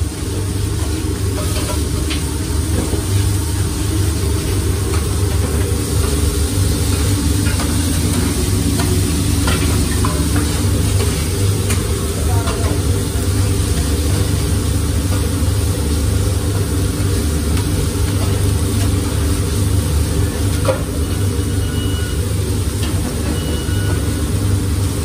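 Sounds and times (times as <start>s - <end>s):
kitchen equipment rumble: 0.0s - 25.0s
meat sizzling on griddle: 0.0s - 25.0s.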